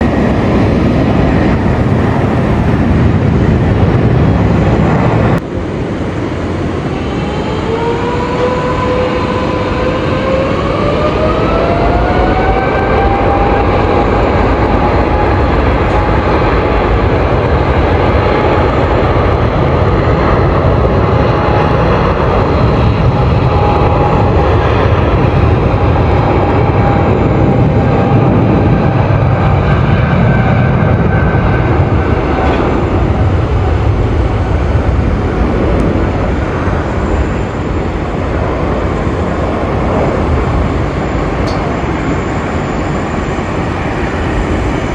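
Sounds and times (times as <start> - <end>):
jet engines spooling up: 0.0 - 44.9.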